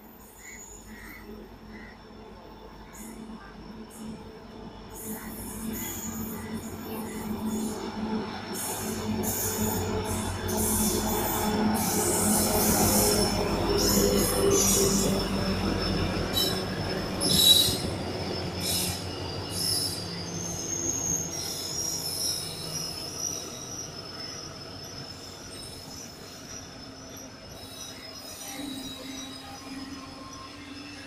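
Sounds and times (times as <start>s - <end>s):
diesel locomotive engine rumbling: 0.0s - 31.0s
train brake and wheel squeals: 0.0s - 31.0s.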